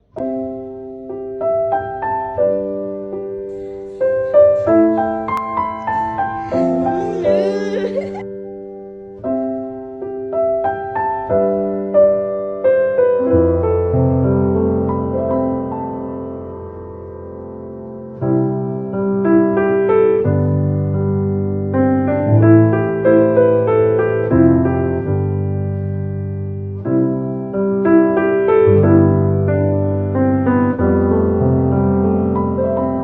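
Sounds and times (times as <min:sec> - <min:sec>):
deep piano bass notes: 0:00.0 - 0:33.0
slow piano melody: 0:00.0 - 0:33.0.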